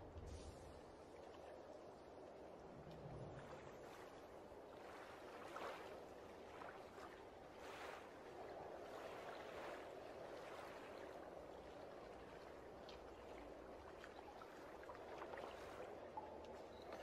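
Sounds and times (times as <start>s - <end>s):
soft splashes: 0.2s - 17.0s
footsteps wading through water: 2.8s - 17.0s.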